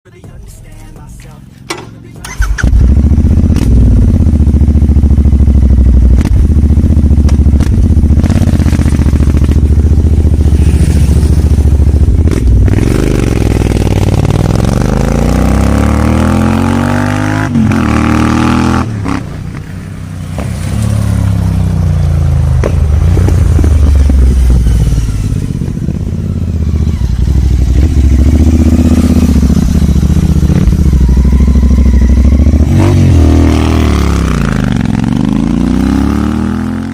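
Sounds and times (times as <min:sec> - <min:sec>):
motorcycle engine revving: 0:01.8 - 0:36.9.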